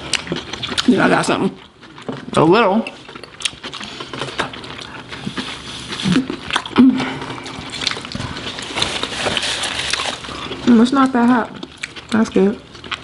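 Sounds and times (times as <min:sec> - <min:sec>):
sauce squishing: 0:00.0 - 0:13.0
wet chewing and smacking: 0:00.0 - 0:13.0.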